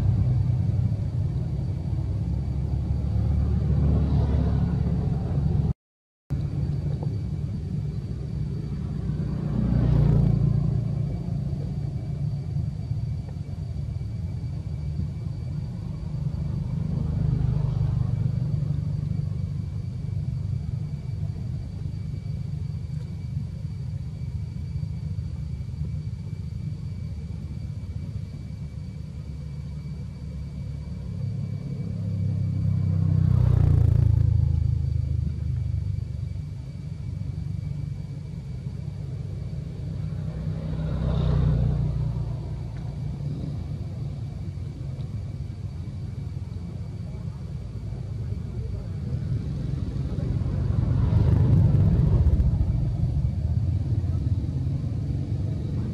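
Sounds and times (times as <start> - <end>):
vehicles passing: 0.0 - 14.4, 15.0 - 22.6, 30.0 - 36.4, 37.0 - 55.9
low traffic rumble: 0.0 - 55.9.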